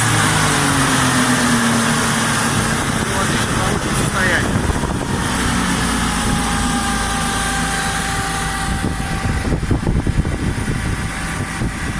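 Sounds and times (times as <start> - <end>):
forklift diesel engine running: 0.0 - 11.9.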